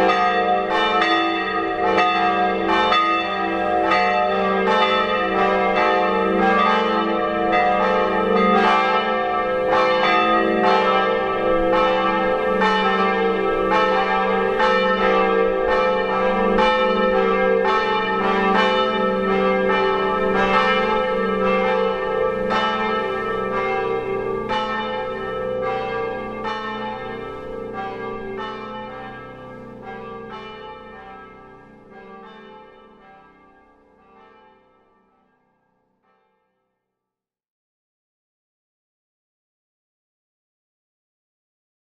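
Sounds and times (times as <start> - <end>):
church bells ringing: 0.0 - 36.4.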